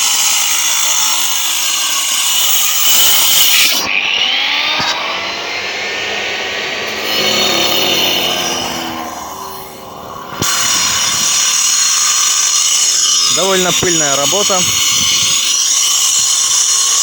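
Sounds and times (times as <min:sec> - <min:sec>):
power saw grinding stone: 0:00.0 - 0:17.0.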